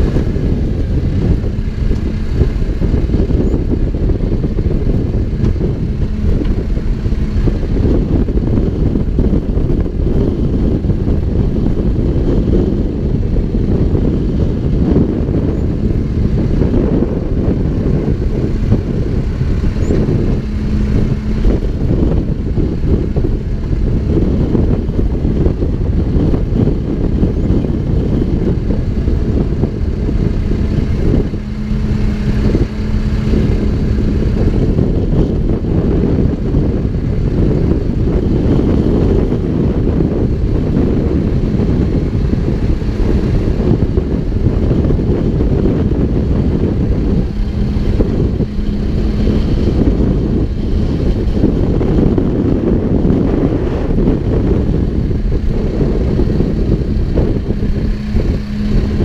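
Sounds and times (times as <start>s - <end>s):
diesel engine rumbling: 0.0s - 59.0s.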